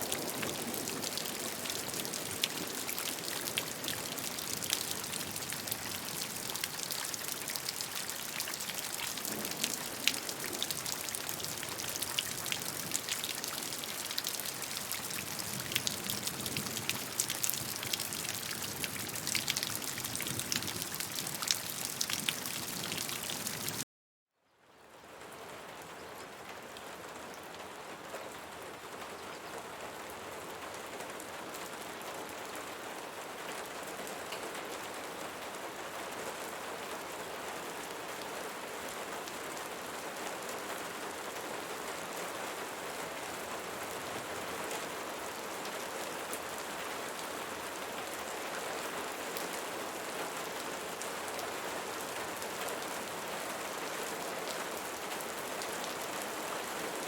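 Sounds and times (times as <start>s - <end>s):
rain falling: 0.0s - 23.8s, 24.8s - 57.0s.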